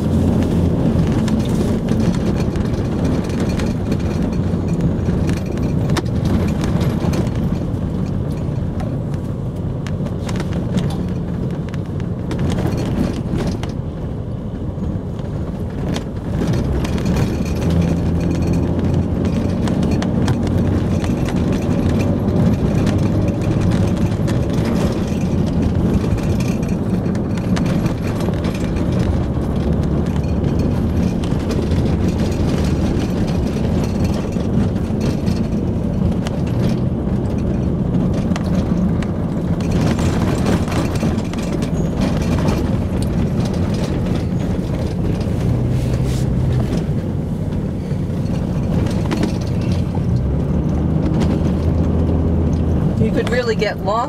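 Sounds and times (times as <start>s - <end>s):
road noise: 0.0s - 54.0s
vehicle engine rumble: 0.0s - 54.0s.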